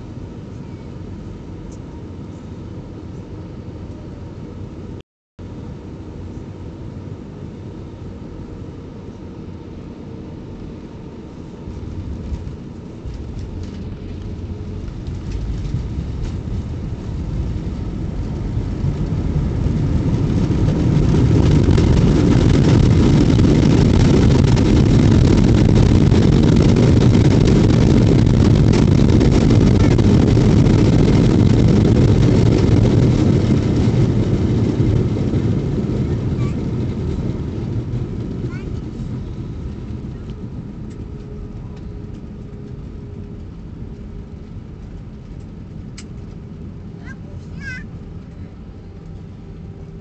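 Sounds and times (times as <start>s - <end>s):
jet engine reverse thrust roar: 0.0s - 50.0s.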